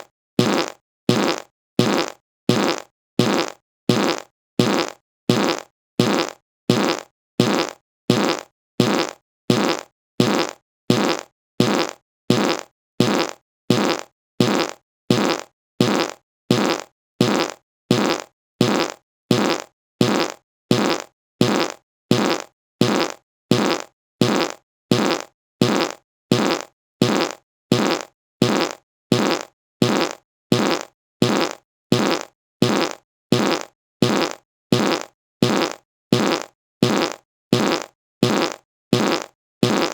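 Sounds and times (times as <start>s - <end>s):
fart sound effect: 0.4s - 39.9s.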